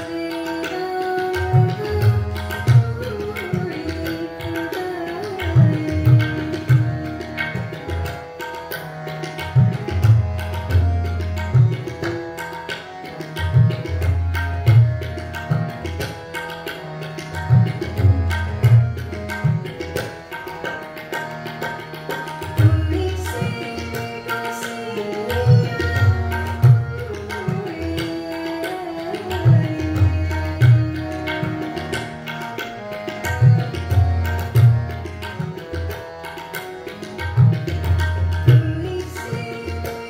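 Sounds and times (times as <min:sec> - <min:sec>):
harmonium chords: 0:00.0 - 0:40.0
tabla drumming: 0:00.0 - 0:40.0.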